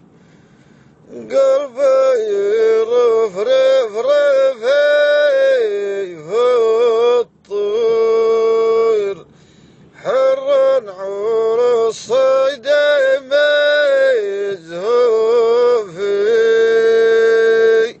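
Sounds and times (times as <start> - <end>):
man singing unaccompanied chant: 1.0 - 18.0.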